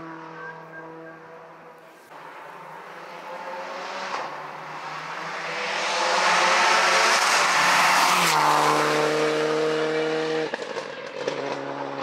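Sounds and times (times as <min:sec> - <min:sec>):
car approaching with tyre noise: 0:00.0 - 0:12.0
race car engine: 0:00.0 - 0:12.0.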